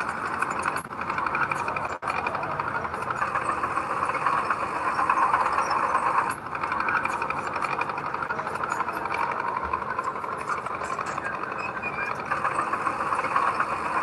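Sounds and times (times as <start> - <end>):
diesel earthmoving machinery clatter: 0.0 - 14.0.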